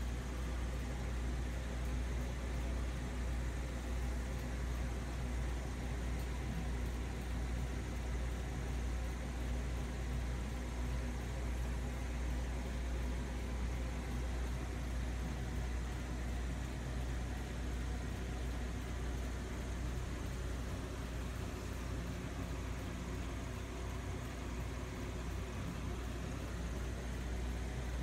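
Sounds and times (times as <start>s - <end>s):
aquarium pump humming: 0.0s - 28.0s.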